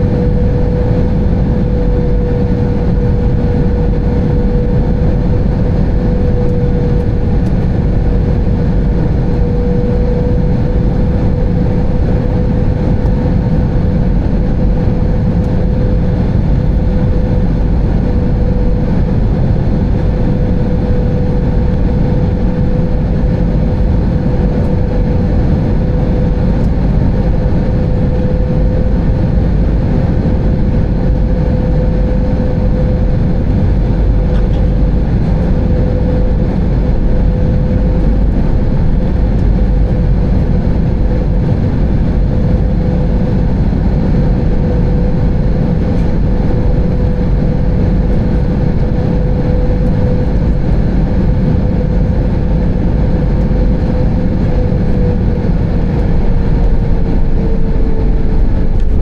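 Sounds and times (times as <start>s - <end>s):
cabin airflow: 0.0s - 59.0s
constant hum: 0.0s - 59.0s
jet engines rumbling: 0.0s - 59.0s.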